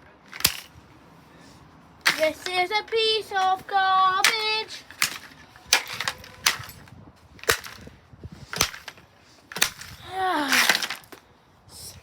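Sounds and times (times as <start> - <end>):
plastic casing cracking from blows: 0.3 - 0.8, 2.0 - 11.2.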